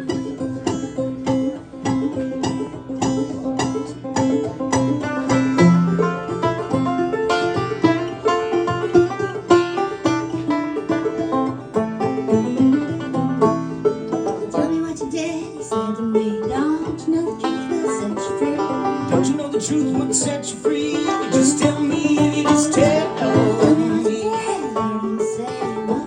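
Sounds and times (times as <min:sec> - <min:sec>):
banjo picking: 0:00.0 - 0:26.0.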